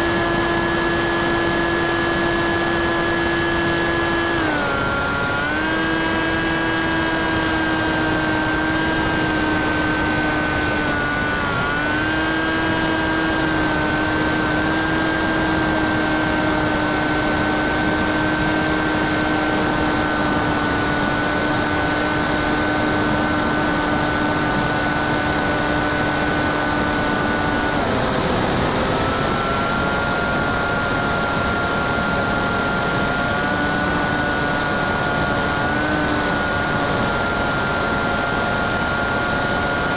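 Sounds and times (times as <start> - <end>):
electric motor and propeller whining: 0.0 - 39.9.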